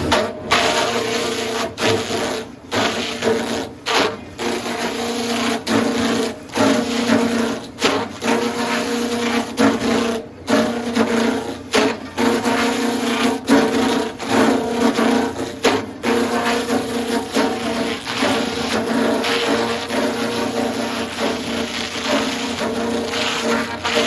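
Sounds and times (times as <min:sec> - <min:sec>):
blade cutting through wood: 0:00.0 - 0:24.0
sawmill machinery humming: 0:00.0 - 0:24.0.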